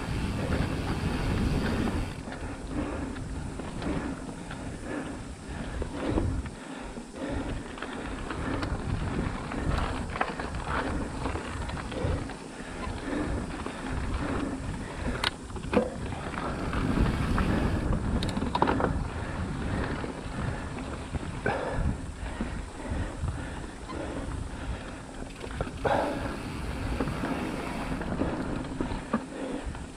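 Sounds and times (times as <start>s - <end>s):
bike rattling over bumps: 0.0s - 29.9s
bike tyres rolling over dirt: 0.0s - 29.9s
wind buffeting microphone: 0.0s - 29.9s.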